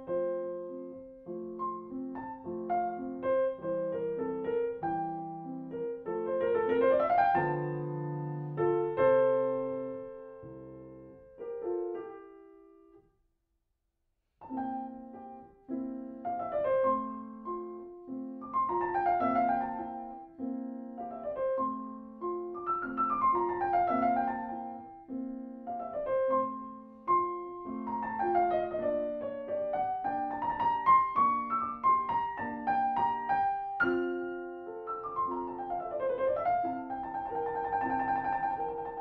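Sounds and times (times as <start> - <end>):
solo grand piano piece: 0.0 - 13.3, 14.2 - 39.0.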